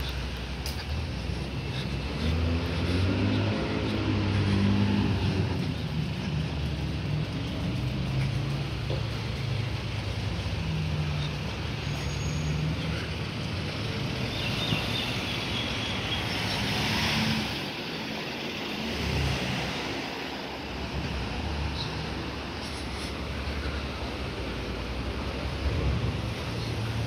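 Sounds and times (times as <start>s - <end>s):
vehicle passing close by: 0.0s - 23.8s
car engines running: 0.0s - 27.0s.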